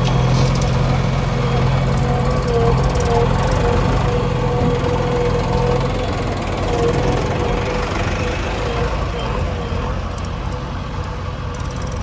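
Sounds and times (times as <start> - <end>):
whining tone: 0.0 - 11.2
diesel engine rumbling: 0.0 - 12.0.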